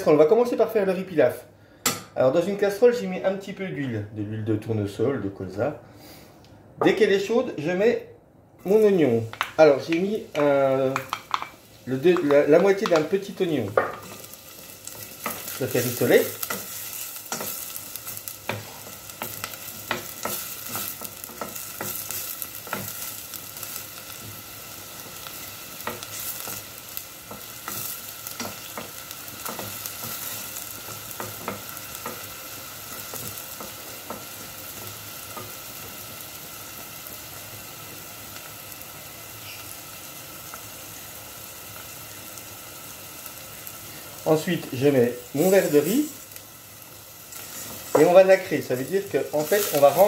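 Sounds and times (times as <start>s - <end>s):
onion sizzling in oil: 8.6s - 50.0s.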